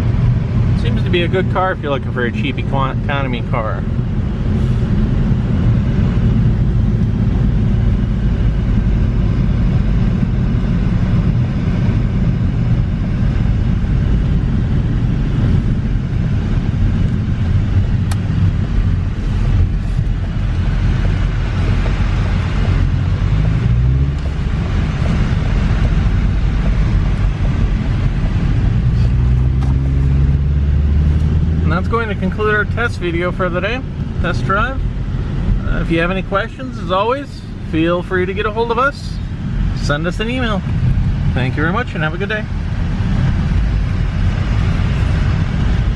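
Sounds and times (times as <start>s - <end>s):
car engine running: 0.0s - 45.9s
tyre and road noise: 0.0s - 45.9s.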